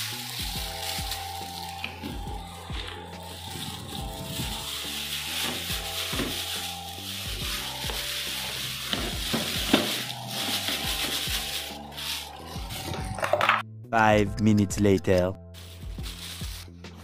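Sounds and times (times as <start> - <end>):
plastic bag crinkling: 0.0 - 13.3, 15.6 - 16.7
background music: 0.0 - 17.0.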